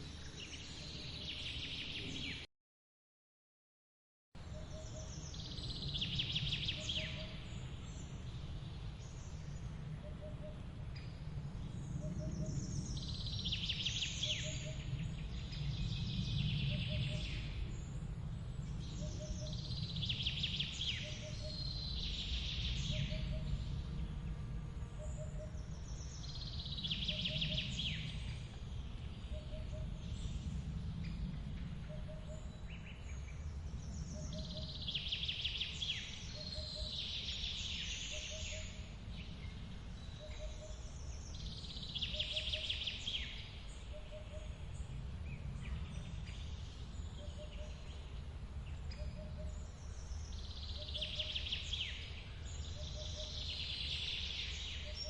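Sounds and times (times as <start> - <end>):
songbird singing: 0.0 - 2.5, 4.4 - 55.0.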